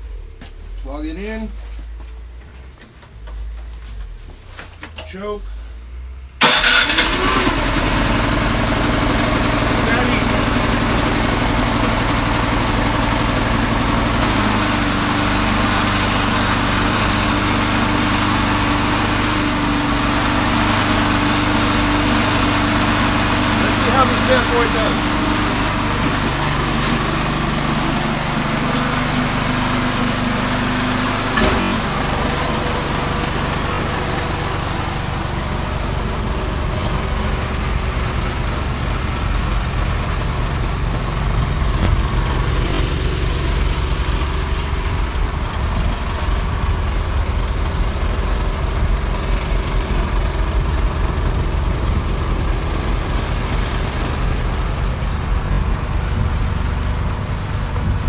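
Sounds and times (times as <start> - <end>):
snowblower engine running: 6.4 - 58.0
engine knock: 7.7 - 30.0, 30.7 - 58.0.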